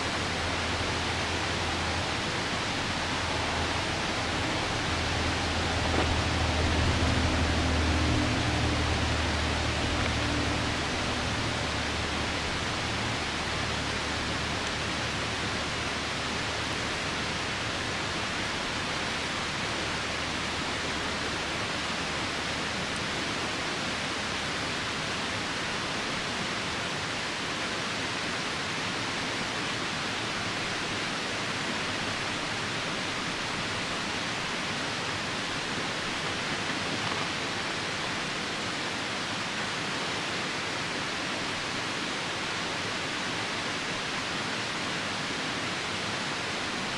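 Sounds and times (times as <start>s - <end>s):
falling rain: 0.0s - 46.9s
river water rushing: 0.0s - 46.9s.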